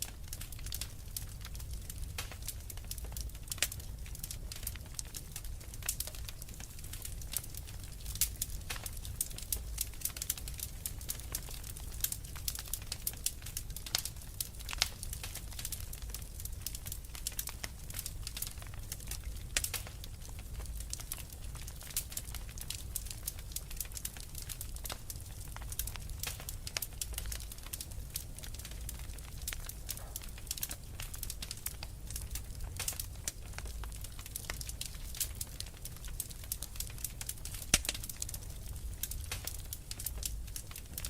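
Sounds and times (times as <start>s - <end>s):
fire crackling: 0.0s - 41.0s.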